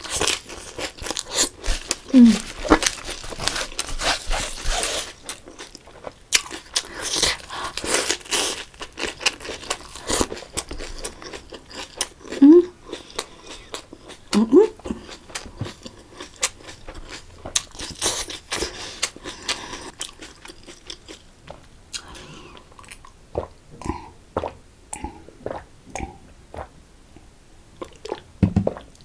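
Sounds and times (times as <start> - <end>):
person crunching and chewing food: 0.0 - 26.7, 27.8 - 29.0.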